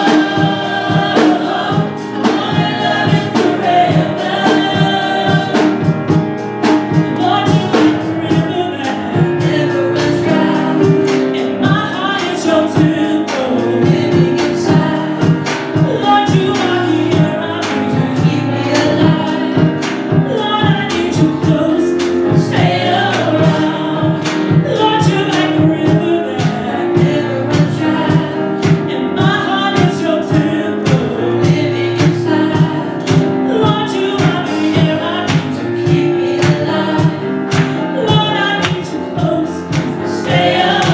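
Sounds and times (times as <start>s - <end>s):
gospel singers with band: 0.0s - 40.9s
steady drum beat: 0.0s - 40.9s.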